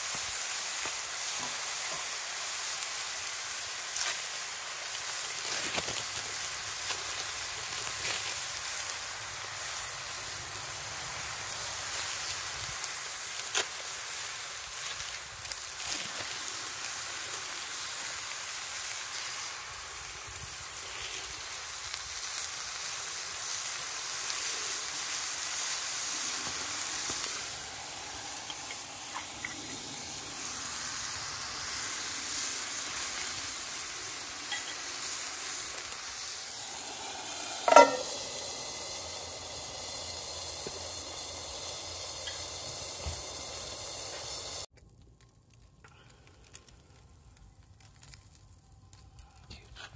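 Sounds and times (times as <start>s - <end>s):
food sizzling in a frying pan: 0.0s - 44.7s.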